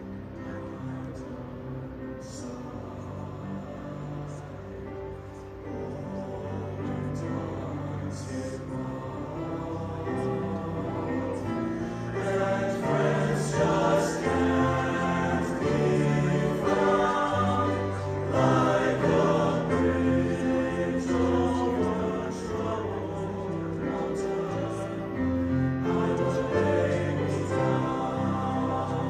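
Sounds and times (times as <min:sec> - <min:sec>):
men's choir singing in harmony: 0:00.0 - 0:29.0.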